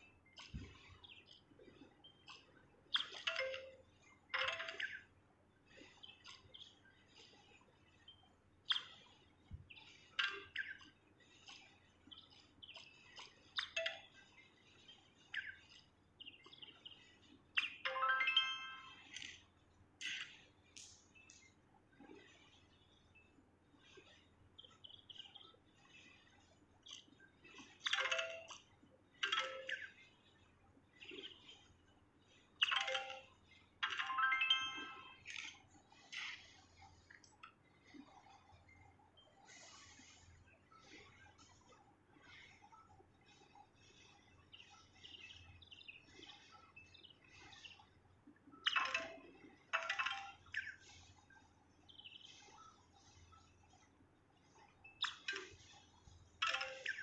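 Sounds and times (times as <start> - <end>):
faint bird chirps: 0.0 - 57.0.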